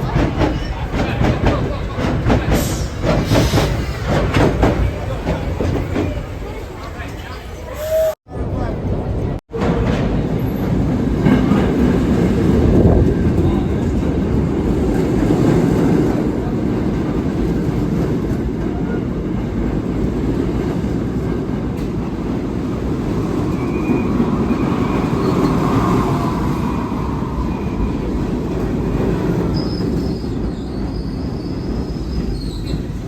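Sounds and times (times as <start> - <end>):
subway train rumbling on rails: 0.0 - 33.0.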